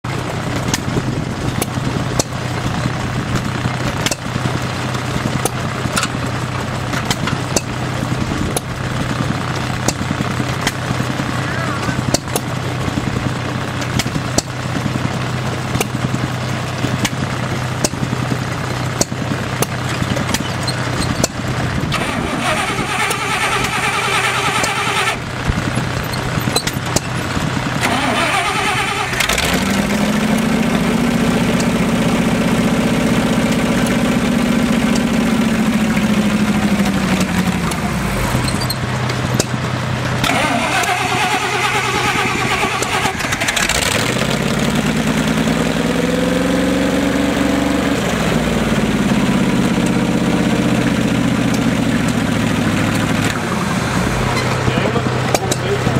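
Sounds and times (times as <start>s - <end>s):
tractor engine revving: 0.0s - 55.9s.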